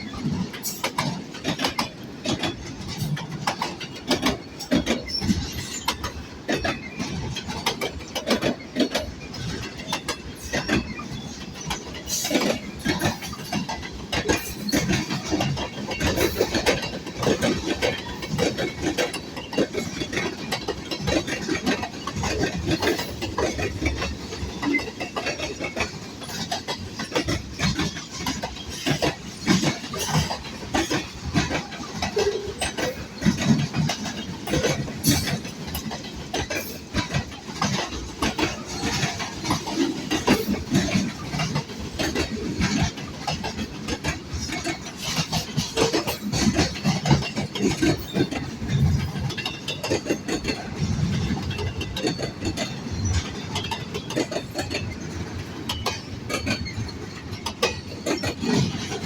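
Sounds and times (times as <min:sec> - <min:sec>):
low rumble of train cars: 0:00.0 - 0:59.0
train wheels clacking on rails: 0:00.0 - 0:59.0.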